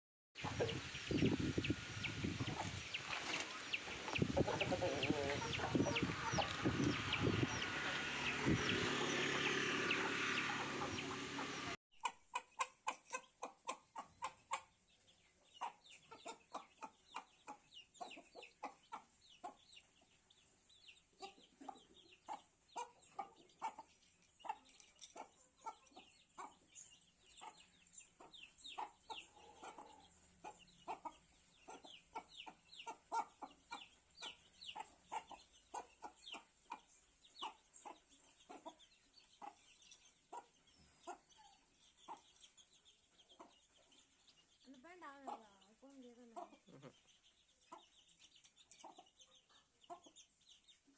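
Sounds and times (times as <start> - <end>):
chickens clucking and calling: 0.4 - 50.9.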